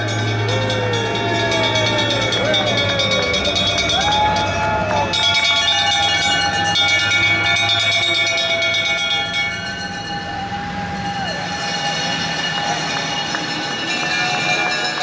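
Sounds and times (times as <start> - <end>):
engines running: 0.0 - 15.0
fire engine bells ringing: 0.0 - 15.0.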